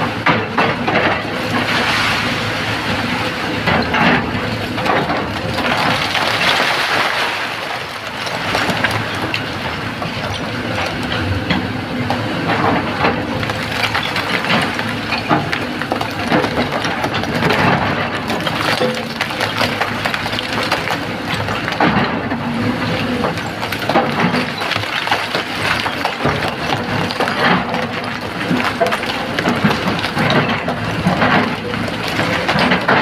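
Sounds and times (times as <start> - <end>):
excavator diesel engine under load: 0.0 - 33.0
rock grinding and cracking: 0.1 - 33.0.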